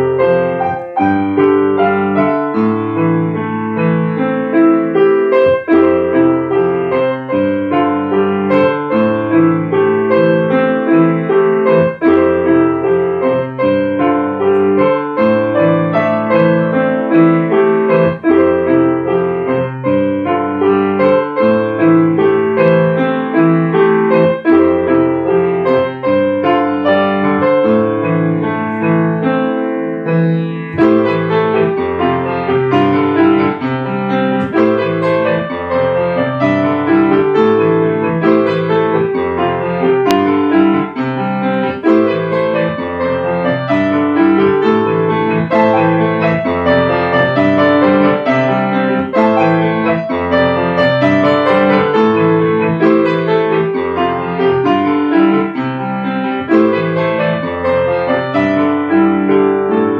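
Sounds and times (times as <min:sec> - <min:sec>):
piano playing: 0:00.0 - 0:59.9.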